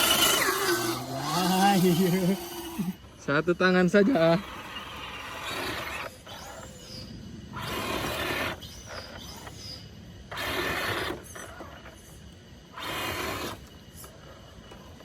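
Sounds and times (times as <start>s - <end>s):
small electric motor bursts: 0.0s - 3.0s, 3.9s - 9.6s, 10.3s - 14.1s.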